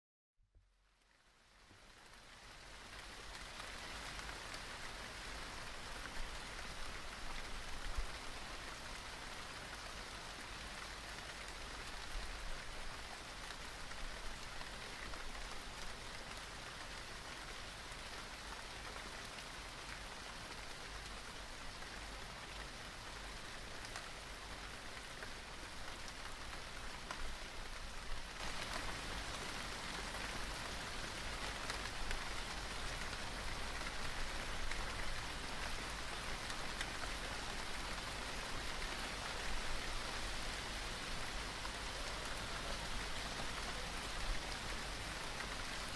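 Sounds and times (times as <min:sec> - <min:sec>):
steady rain hiss: 0:00.7 - 0:45.9.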